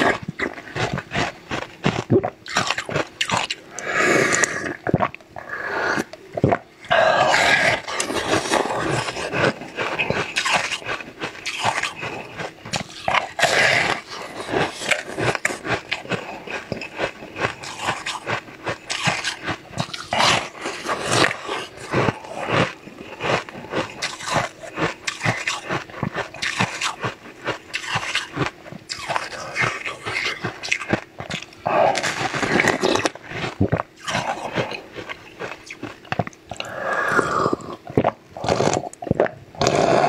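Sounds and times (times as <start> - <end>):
crunching and chewing ice: 0.0 - 40.0.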